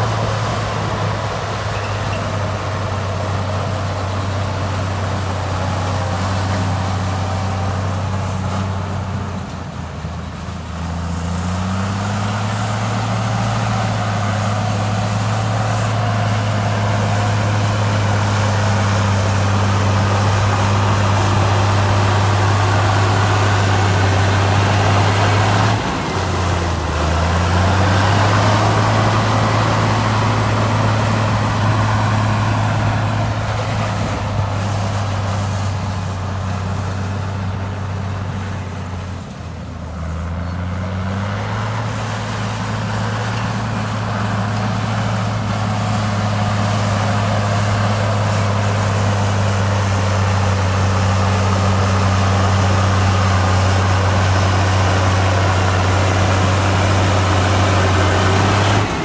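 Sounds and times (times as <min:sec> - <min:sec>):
heavy diesel engine under load: 0:00.0 - 0:59.0.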